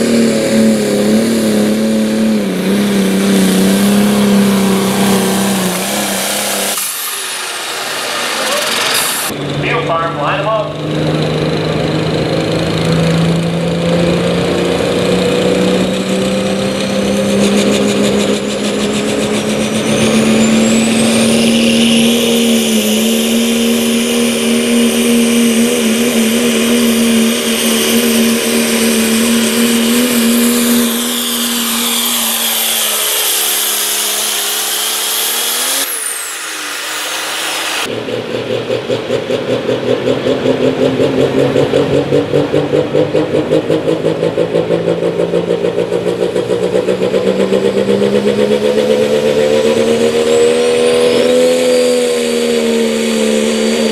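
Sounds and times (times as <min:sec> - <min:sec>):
high whine: 0:00.0 - 0:39.8, 0:45.8 - 0:53.9
diesel engine throbbing: 0:00.0 - 0:53.9
diesel tractor engine under load: 0:00.0 - 0:53.9.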